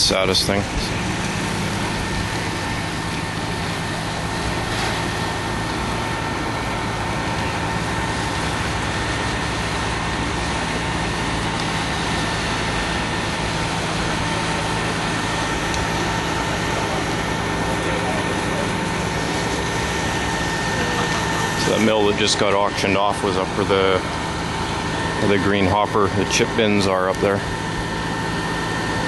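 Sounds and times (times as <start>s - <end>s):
heavy engine idling: 0.0s - 29.0s.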